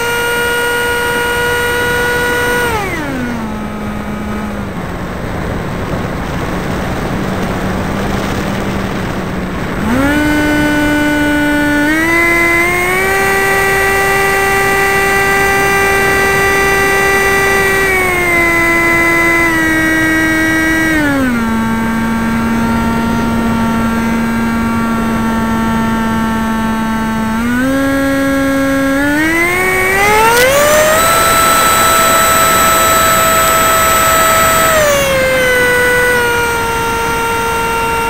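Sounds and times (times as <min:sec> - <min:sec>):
model plane motor whining: 0:00.0 - 0:38.0.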